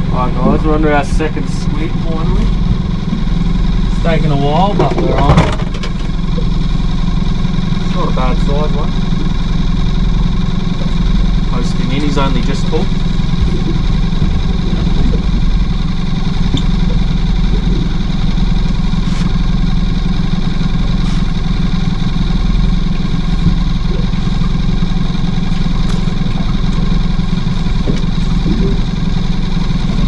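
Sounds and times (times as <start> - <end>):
boat motor idling: 0.0 - 30.0.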